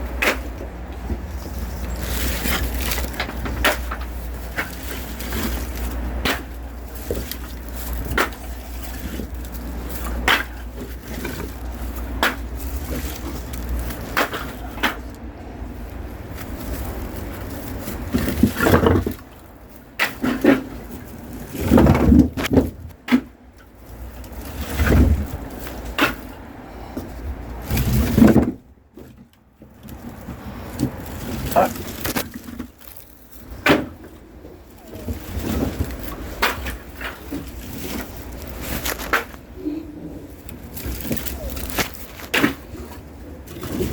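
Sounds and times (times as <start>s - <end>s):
firewood logs knocking: 0.0s - 15.3s, 15.9s - 39.6s
heavy thumps and wood scraping: 0.0s - 39.6s.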